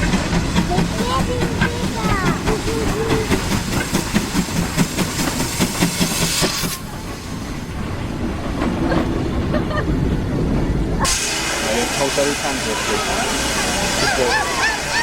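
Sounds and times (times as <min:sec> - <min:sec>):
steam train running on track: 0:00.0 - 0:15.0.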